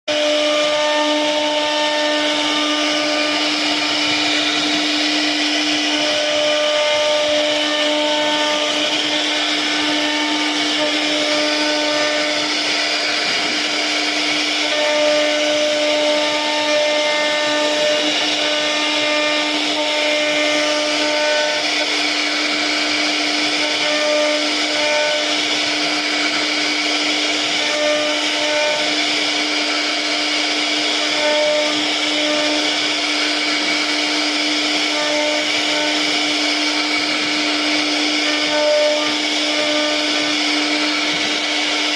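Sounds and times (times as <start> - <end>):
hissing cutting noise: 0.1 - 41.9
router spindle high whine: 0.1 - 41.9.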